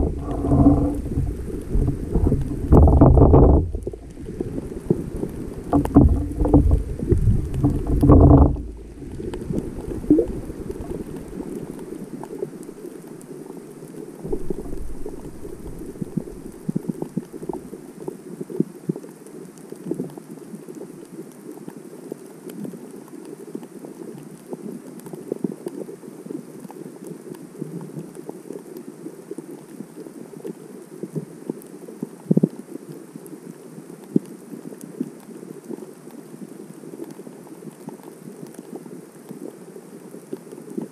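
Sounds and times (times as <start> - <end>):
muffled underwater water rushing: 0.0 - 40.9
small crackles and clicks underwater: 0.0 - 40.9.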